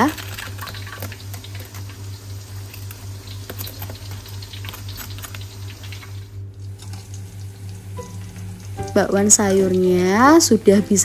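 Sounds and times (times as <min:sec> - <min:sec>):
hot oil sizzling and popping: 0:00.0 - 0:11.0
steady low hum: 0:00.0 - 0:11.0.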